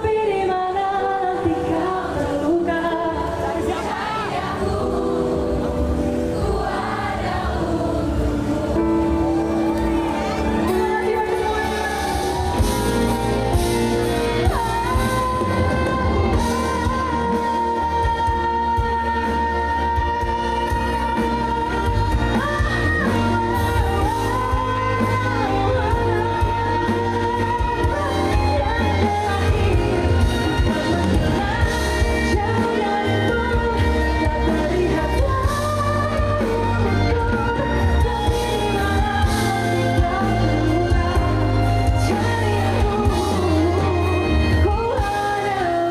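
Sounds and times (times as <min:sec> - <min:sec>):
live pop band: 0:00.0 - 0:45.9
woman singing: 0:00.0 - 0:45.9.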